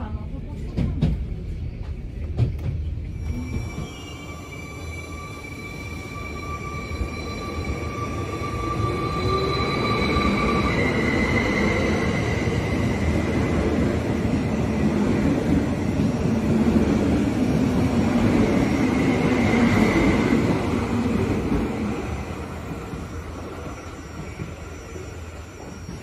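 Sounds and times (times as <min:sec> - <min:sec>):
train wheels rumbling on rail: 0:00.0 - 0:26.0
train high whine: 0:01.8 - 0:26.0.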